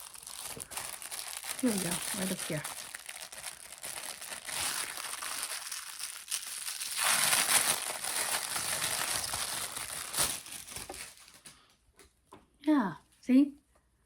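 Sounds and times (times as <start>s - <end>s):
packaging crinkling and rustling: 0.0s - 11.7s.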